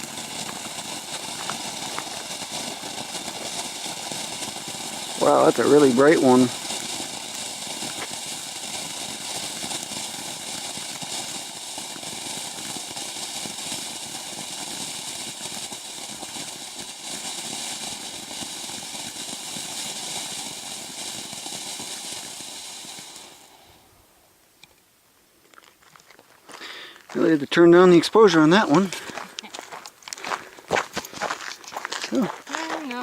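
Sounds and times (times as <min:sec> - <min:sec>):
firework fountain crackling hiss: 0:00.0 - 0:24.6, 0:26.0 - 0:33.0.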